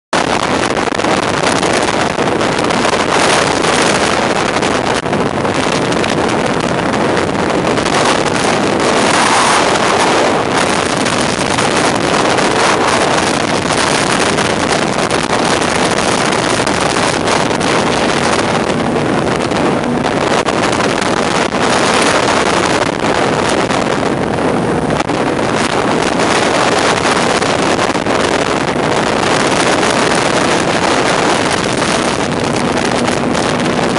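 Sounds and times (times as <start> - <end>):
jet boat engine and water rush: 0.1 - 33.9
wind buffeting microphone: 0.1 - 33.9.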